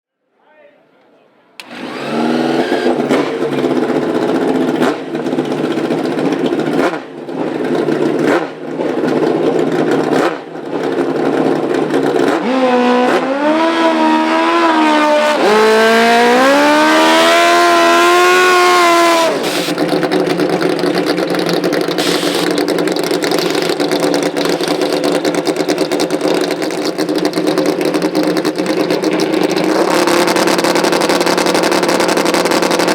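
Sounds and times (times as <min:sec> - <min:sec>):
motorcycle engine revving: 0:01.6 - 0:32.9.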